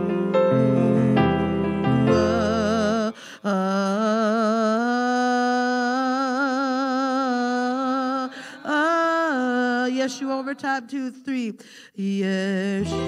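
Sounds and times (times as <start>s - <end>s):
woman singing unaccompanied: 2.1s - 13.0s.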